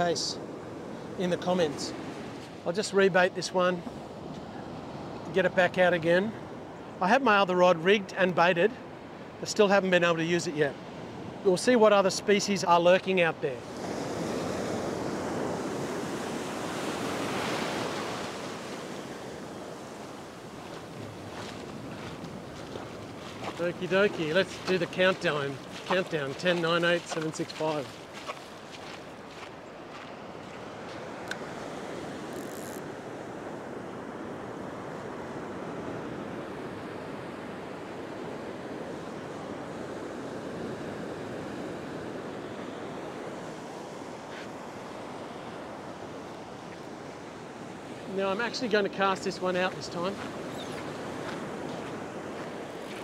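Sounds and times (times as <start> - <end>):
ocean surf breaking: 8.7 - 53.0.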